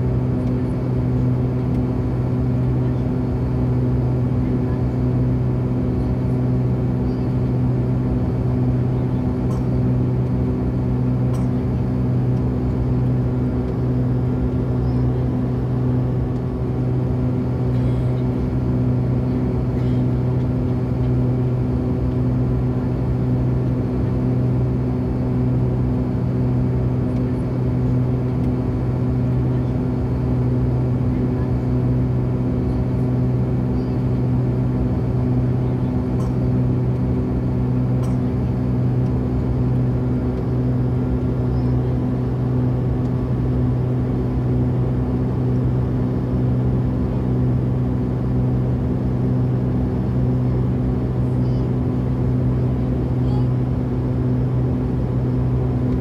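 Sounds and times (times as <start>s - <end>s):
jet airliner cabin drone: 0.0s - 56.0s.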